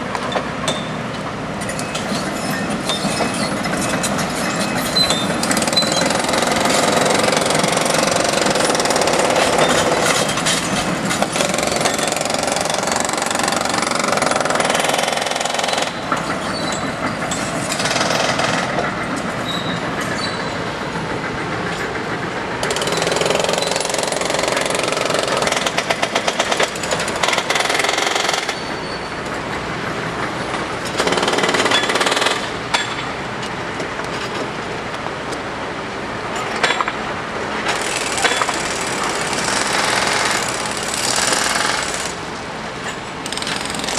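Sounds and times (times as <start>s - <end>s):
construction machinery and power tools: 0.0s - 43.9s.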